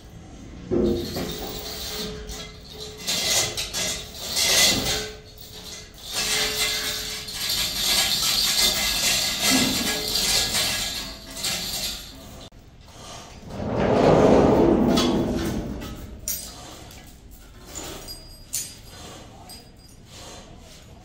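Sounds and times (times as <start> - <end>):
metal chain clinking and rattling: 0.1 - 12.5, 14.9 - 21.0.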